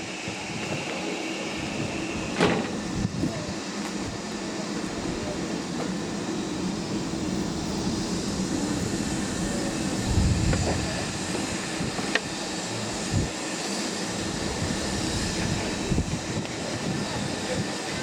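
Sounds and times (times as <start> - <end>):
railway carriage running on track: 0.0 - 18.0.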